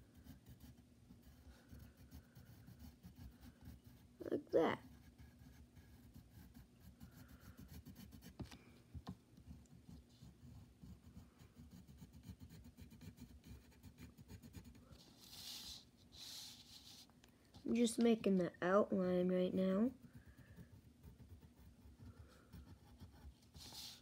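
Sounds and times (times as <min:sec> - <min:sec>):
pencil scratching on paper: 0:00.0 - 0:08.6, 0:09.4 - 0:17.1, 0:17.7 - 0:24.0.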